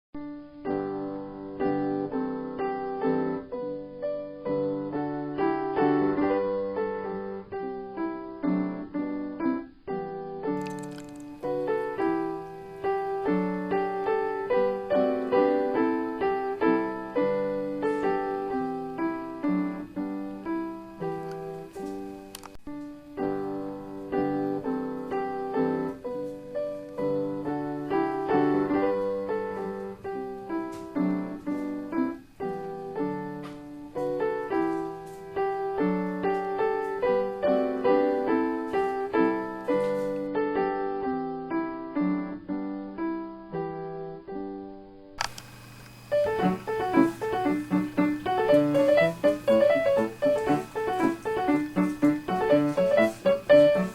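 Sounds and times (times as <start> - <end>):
piano music: 0.2 - 45.2, 45.9 - 53.9.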